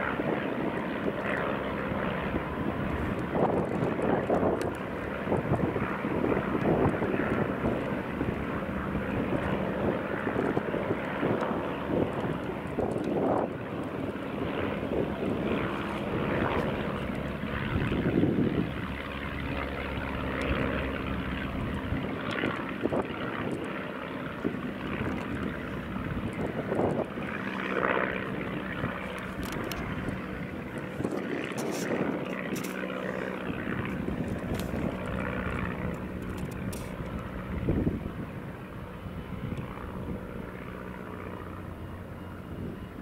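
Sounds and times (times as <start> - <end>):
biplane engines droning: 0.0 - 43.0.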